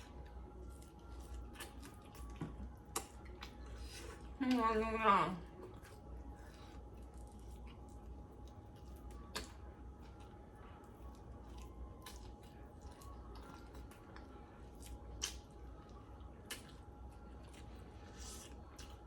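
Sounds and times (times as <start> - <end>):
wet chewing and smacking: 0.0 - 4.6, 5.4 - 19.0.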